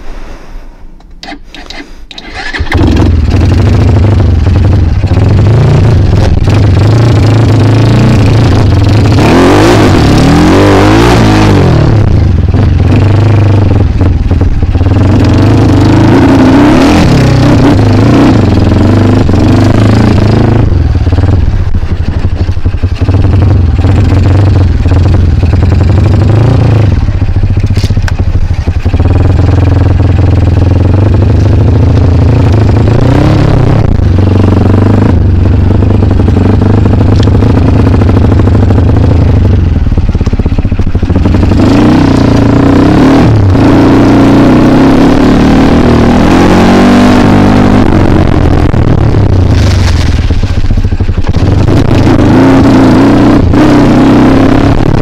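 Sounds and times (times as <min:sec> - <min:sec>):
dirt bike engine revving: 0:01.2 - 0:55.0.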